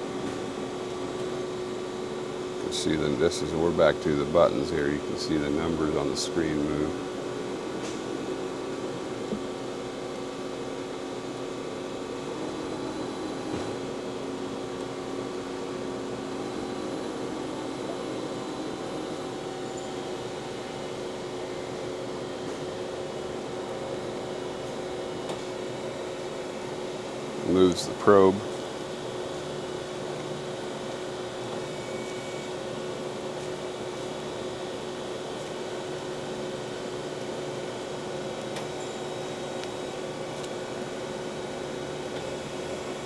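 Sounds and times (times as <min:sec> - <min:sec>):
grinding machine humming and whining: 0:00.0 - 0:43.0.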